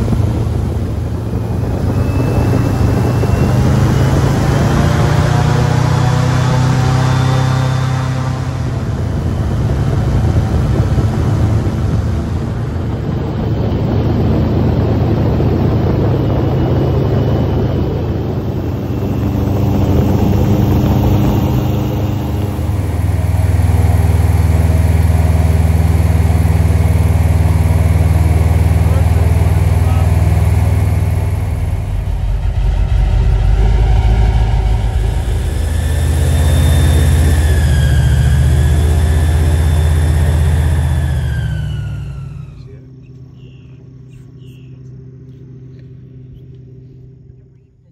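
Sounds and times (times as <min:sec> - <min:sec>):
airboat engine droning: 0:00.0 - 0:47.9.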